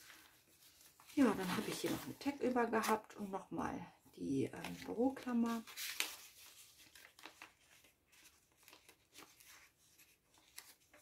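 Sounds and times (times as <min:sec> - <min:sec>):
paper rustling and scraping: 0:00.0 - 0:03.1, 0:04.6 - 0:11.0.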